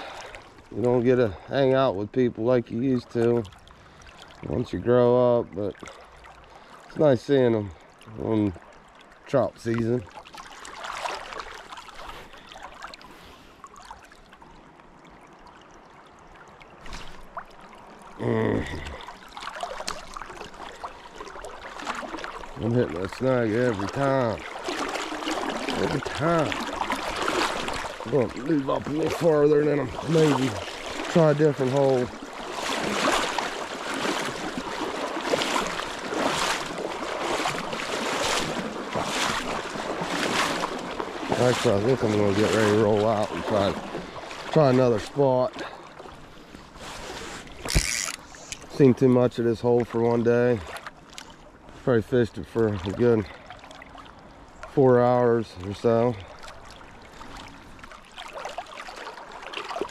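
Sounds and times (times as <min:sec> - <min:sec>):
small splashes and ticks: 0:00.0 - 0:59.9
stream running and gurgling: 0:00.0 - 0:59.9.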